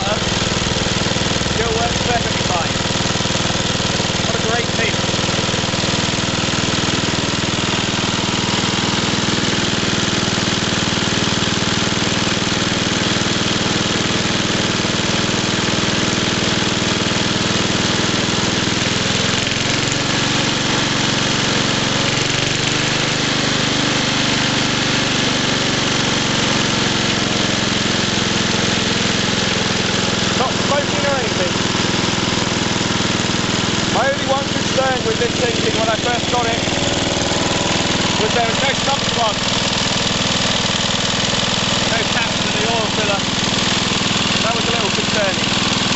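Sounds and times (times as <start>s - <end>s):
mower engine running: 0.0s - 45.9s.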